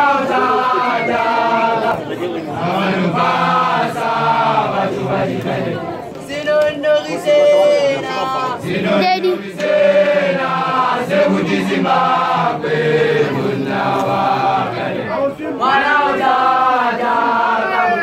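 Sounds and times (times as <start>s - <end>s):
men chanting a song: 0.0s - 18.0s.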